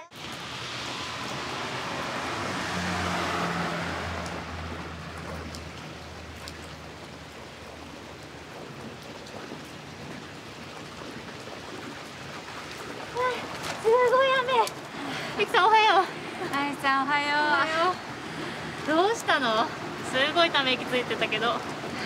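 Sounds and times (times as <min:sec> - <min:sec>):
rain falling on a street: 0:00.1 - 0:22.0
vehicle passing on wet road: 0:00.1 - 0:22.0.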